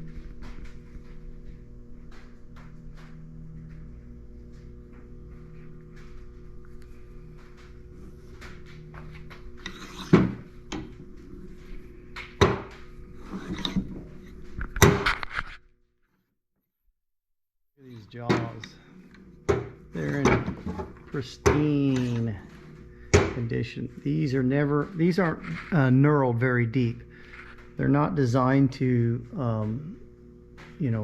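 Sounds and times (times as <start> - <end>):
faint steady hum: 0.0 - 15.0, 17.8 - 31.0.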